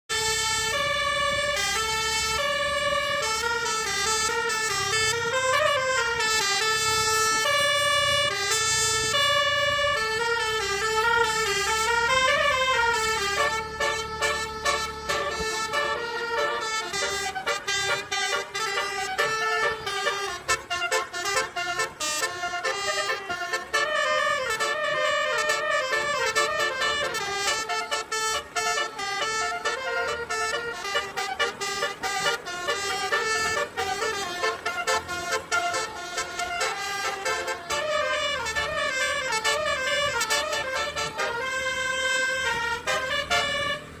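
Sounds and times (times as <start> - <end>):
musical vehicle horn playing a tune: 0.1 - 44.0.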